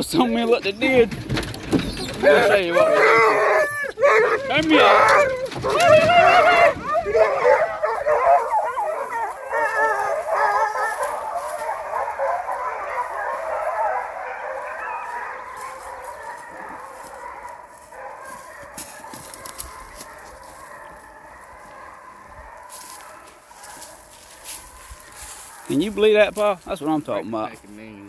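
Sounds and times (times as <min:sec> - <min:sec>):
hounds bawling and howling: 0:00.1 - 0:27.2.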